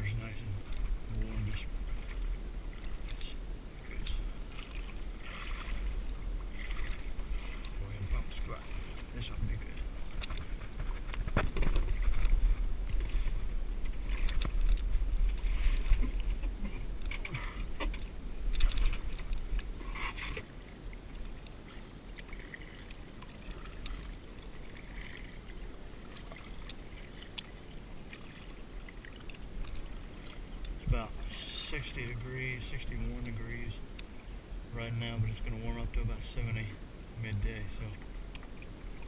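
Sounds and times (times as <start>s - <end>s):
paddle splashing in water: 0.0s - 34.4s
low steady rumble: 0.0s - 39.0s.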